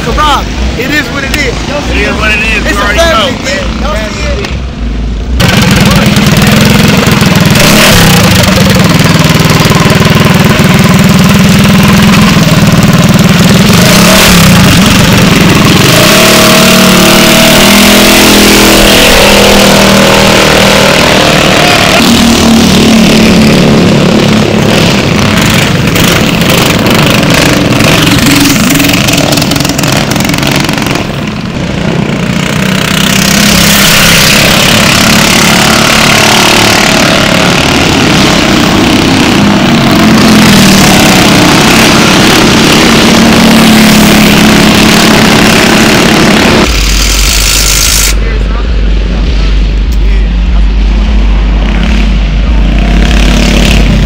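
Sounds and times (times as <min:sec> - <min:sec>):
minibike engine revving: 0:05.4 - 0:54.0.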